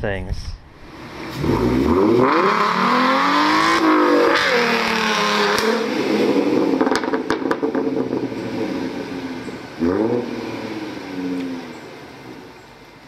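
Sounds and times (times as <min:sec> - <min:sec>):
engine revving: 0:00.8 - 0:12.5.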